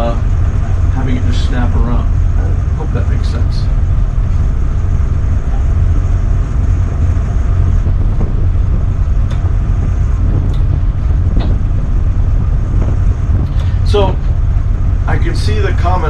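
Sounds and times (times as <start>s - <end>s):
diesel boat engines running: 0.0s - 16.0s
wind buffeting microphone: 0.0s - 16.0s.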